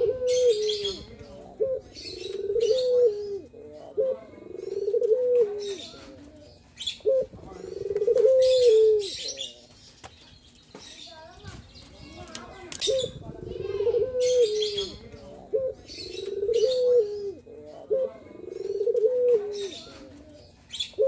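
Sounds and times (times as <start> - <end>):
dove cooing: 0.0 - 9.6, 12.8 - 21.0.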